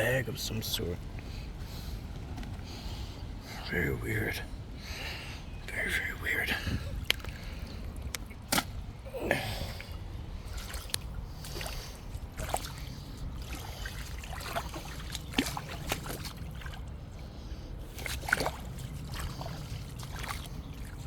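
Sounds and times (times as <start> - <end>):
water splashing and trickling: 3.8 - 21.0.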